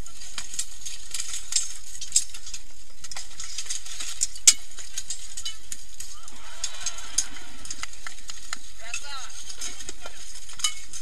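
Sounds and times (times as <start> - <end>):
armour and weapons clanking: 0.0 - 11.0.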